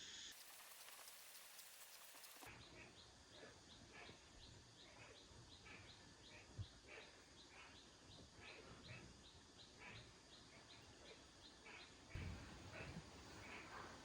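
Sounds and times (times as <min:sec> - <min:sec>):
faint bird chirping: 0:00.0 - 0:14.0.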